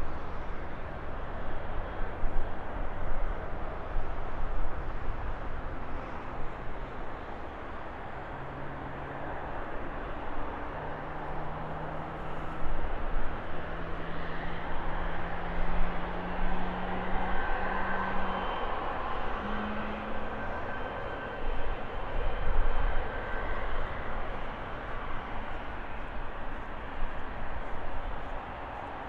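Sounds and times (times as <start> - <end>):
high engine whine: 0.0 - 29.0.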